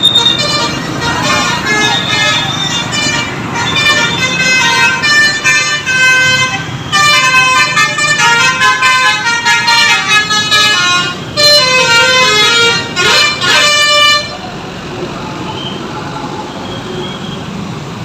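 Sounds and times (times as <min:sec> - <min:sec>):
bus air horns playing melody: 0:00.0 - 0:14.4.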